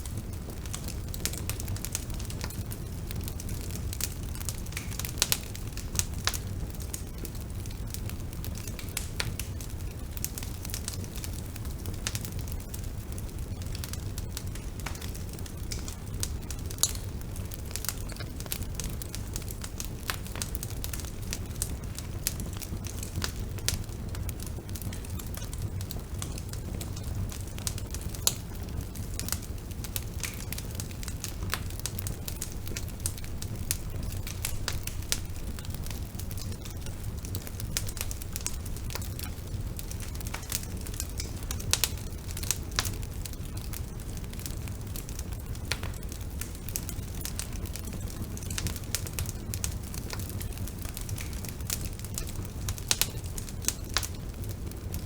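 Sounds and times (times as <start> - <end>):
bonfire rumble: 0.0 - 55.0
wood crackling and popping: 0.0 - 55.0.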